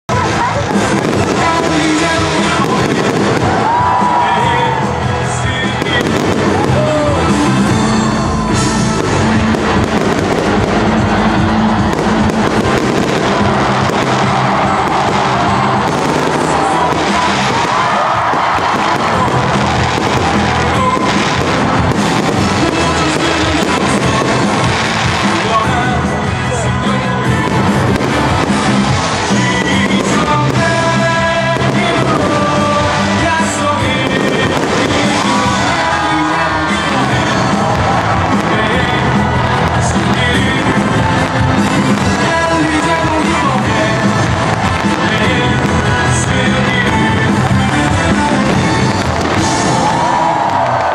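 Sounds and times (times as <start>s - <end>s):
loud music: 0.0s - 50.9s
fireworks popping and crackling: 0.1s - 50.9s.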